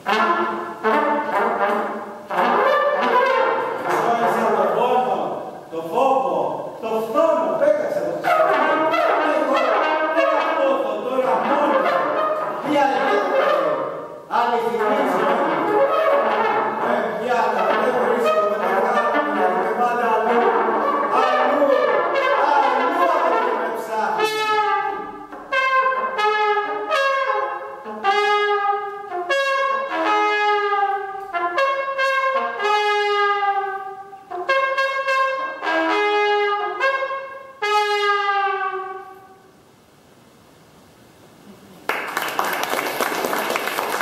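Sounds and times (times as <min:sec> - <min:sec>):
solo trumpet: 0:00.0 - 0:05.7, 0:06.6 - 0:39.9.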